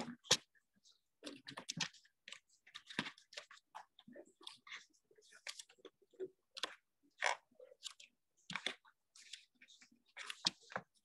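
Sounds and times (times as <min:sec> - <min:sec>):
faint irregular clicks and crackles: 0:00.0 - 0:11.0.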